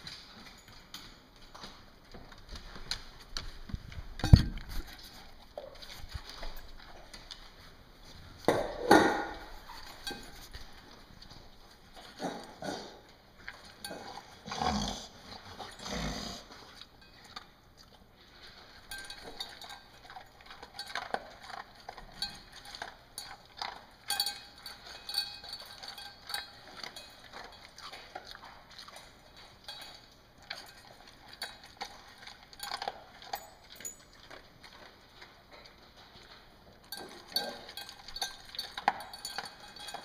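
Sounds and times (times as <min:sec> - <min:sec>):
dog eating from metal bowl: 0:00.0 - 0:40.0.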